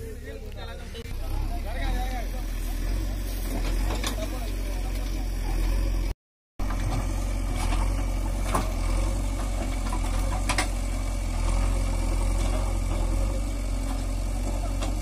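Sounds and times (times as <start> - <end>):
diesel engine running at low revs: 0.0 - 15.0.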